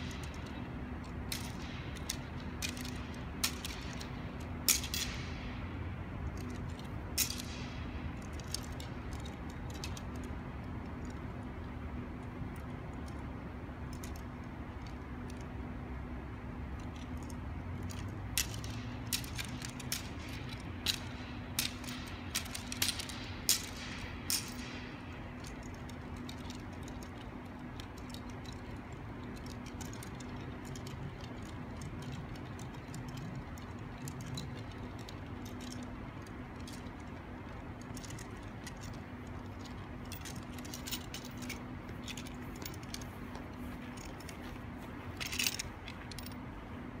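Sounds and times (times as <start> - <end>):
ventilation fans humming: 0.0 - 47.0.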